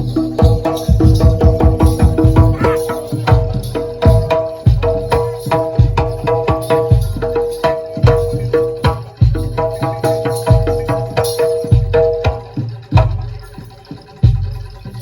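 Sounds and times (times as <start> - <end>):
hand drums: 0.0 - 15.0
held stepwise melody: 0.0 - 15.0.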